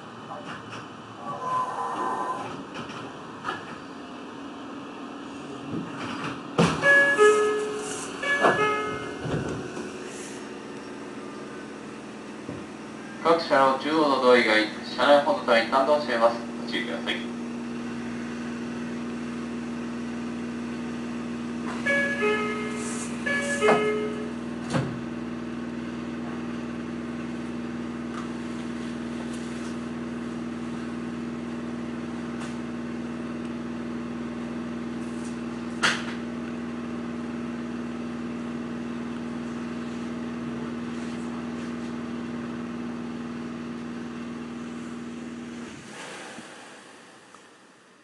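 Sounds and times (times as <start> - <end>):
electric train hum: 0.0 - 48.0.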